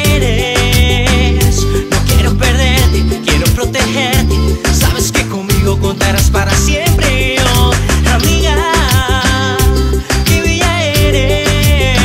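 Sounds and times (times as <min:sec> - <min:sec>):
pop song instrumental with heavy bass: 0:00.0 - 0:12.0.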